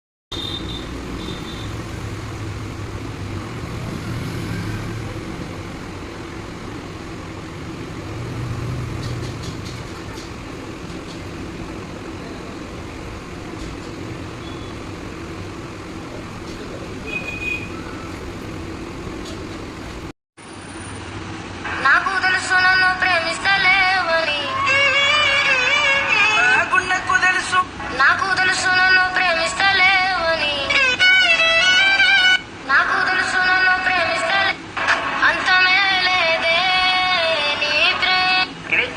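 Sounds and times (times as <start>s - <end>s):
street traffic rumble: 0.3s - 38.9s.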